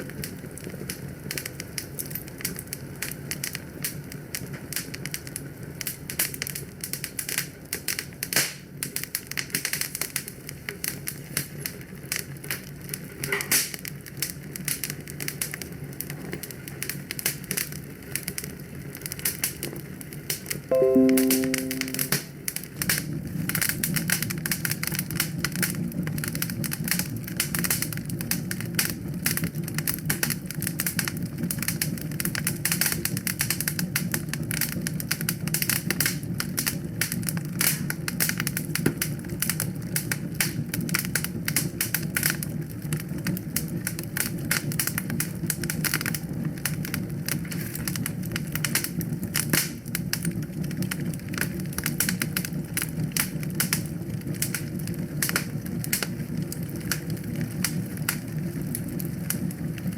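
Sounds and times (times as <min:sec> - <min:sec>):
wood fire crackling: 0:00.0 - 0:21.8, 0:22.7 - 0:59.9.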